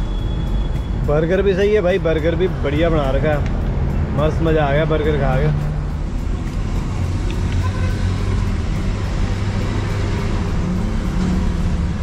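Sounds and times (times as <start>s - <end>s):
road traffic: 0.0s - 12.0s
vehicle engine hum: 0.0s - 12.0s.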